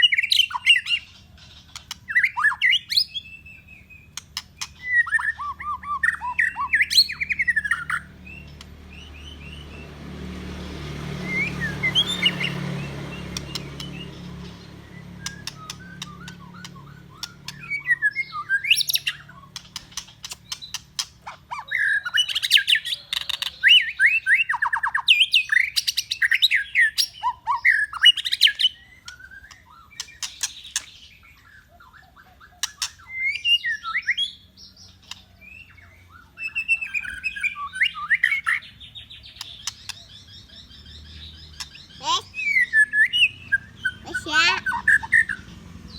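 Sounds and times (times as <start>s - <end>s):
songbird singing whistled phrases: 0.0s - 10.0s, 11.1s - 45.9s.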